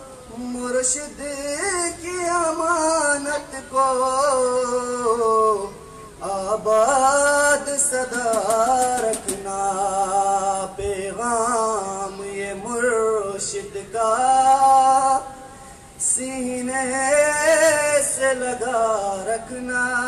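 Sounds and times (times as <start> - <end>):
young man singing: 0.0 - 20.0.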